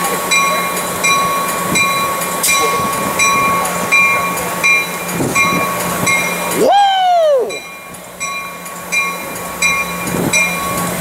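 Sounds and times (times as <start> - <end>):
locomotive humming: 0.0 - 11.0
warning bell ringing: 0.2 - 6.7, 7.4 - 11.0.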